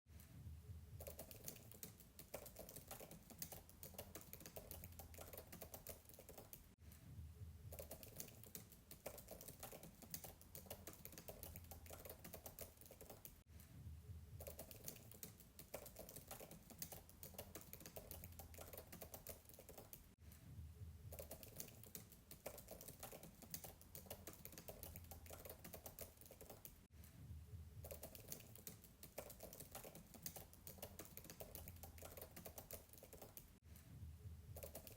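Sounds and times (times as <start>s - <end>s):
fast typing on laptop keyboard: 1.0s - 6.8s, 7.7s - 13.4s, 14.4s - 20.2s, 21.1s - 26.9s, 27.8s - 33.6s, 34.6s - 34.9s.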